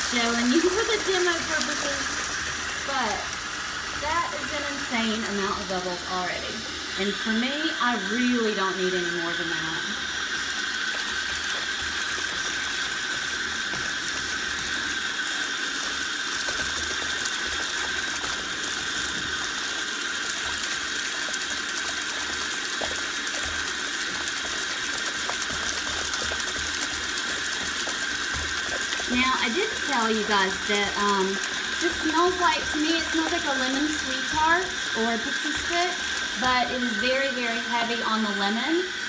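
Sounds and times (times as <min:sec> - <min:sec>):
bathtub faucet running: 0:00.0 - 0:39.0.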